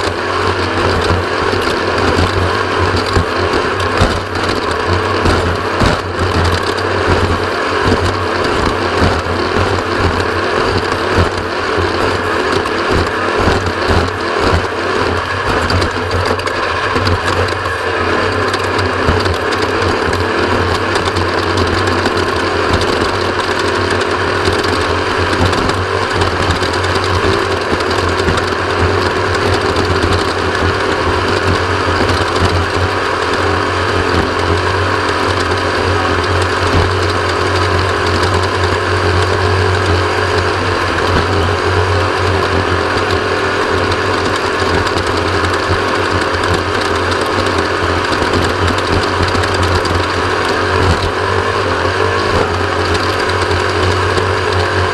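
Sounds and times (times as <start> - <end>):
vehicle engine running hard: 0.0 - 54.9
vehicle rattling over rough ground: 0.0 - 54.9.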